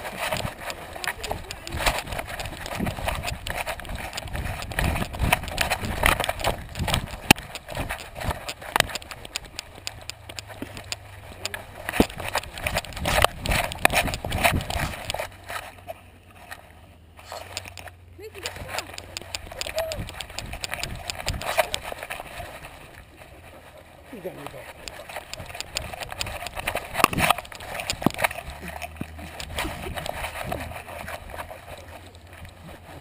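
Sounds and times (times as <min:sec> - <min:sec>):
fur and harness brushing: 0:00.0 - 0:15.7, 0:17.2 - 0:17.8, 0:18.4 - 0:33.0.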